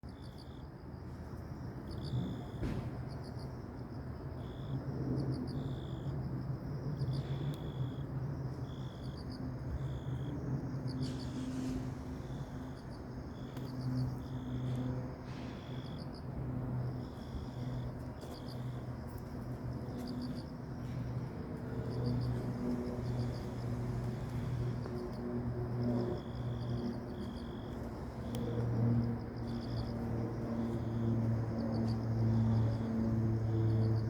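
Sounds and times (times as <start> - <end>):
insects chirping: 0.0 - 34.0
steady low hum: 0.1 - 34.0.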